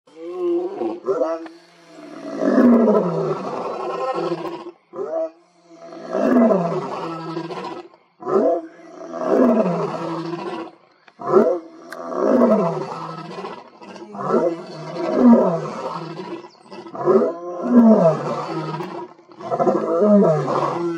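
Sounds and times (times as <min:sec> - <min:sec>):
lion roaring: 0:00.1 - 0:20.9.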